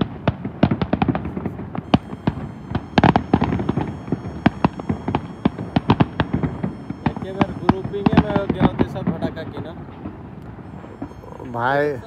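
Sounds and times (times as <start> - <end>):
fireworks banging: 0.0 - 11.9.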